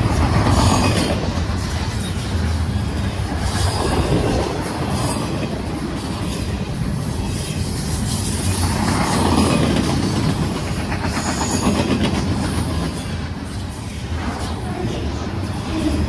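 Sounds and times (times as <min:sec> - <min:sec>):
freight train rumbling and rattling: 0:00.0 - 0:16.0.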